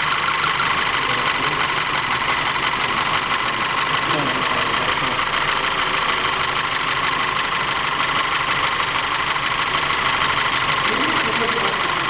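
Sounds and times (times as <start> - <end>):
car engine idling with knocking: 0.0 - 12.0.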